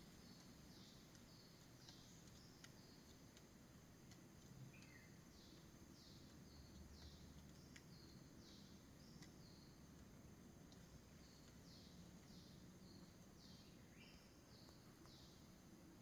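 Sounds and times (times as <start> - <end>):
faint ticks: 0.0 - 16.0.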